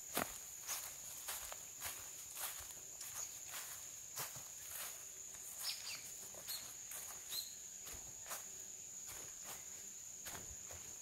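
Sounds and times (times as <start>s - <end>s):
footsteps crunching on dry leaves: 0.0s - 11.0s.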